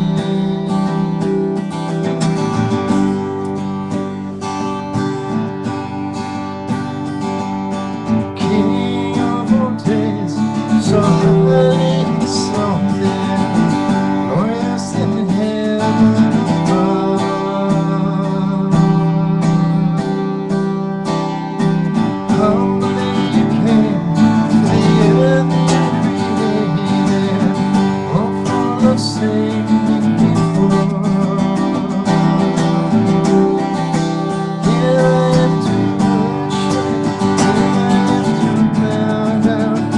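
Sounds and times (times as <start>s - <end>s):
acoustic guitar strumming chords: 0.0s - 39.9s.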